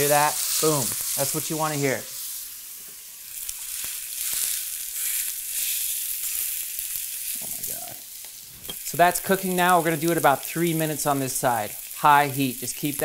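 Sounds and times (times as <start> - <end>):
steak sizzling in oil: 0.0 - 13.0.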